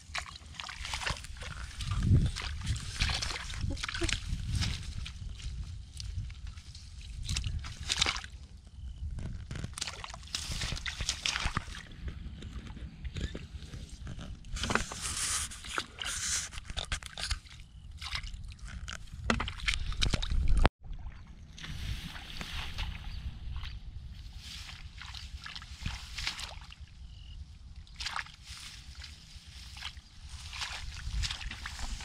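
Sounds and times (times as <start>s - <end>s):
wet grass rustling: 0.0s - 8.5s, 9.1s - 12.0s, 14.5s - 20.0s, 21.6s - 27.1s, 27.8s - 32.0s
muddy water sloshing and splashing: 0.0s - 32.0s.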